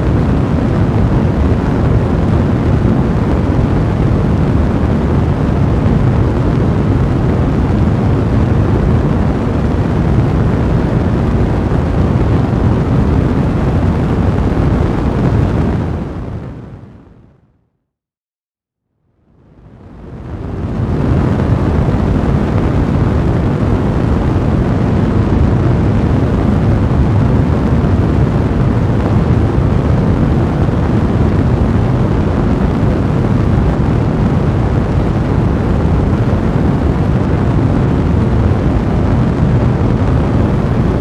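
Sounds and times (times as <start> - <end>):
fire burning in a fireplace: 0.0 - 16.7, 19.6 - 41.0.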